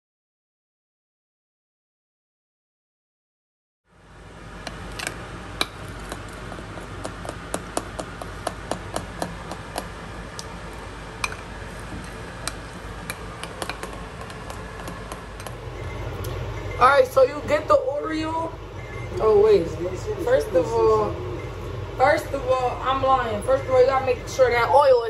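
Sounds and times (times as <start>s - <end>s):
steady low hum: 3.9s - 25.0s.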